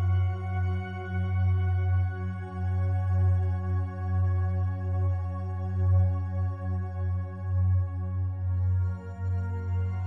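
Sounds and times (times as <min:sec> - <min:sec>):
ambient music with low drone: 0:00.0 - 0:10.0.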